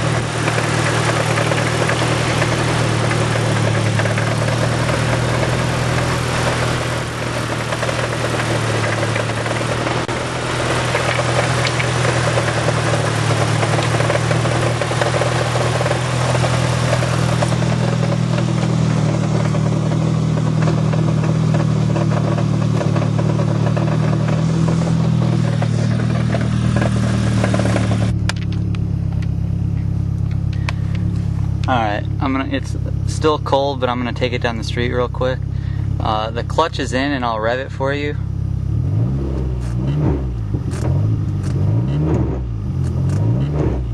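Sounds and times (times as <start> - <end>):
engine knocking: 0.0 - 28.5, 30.2 - 38.3
car engine idling: 0.0 - 43.9.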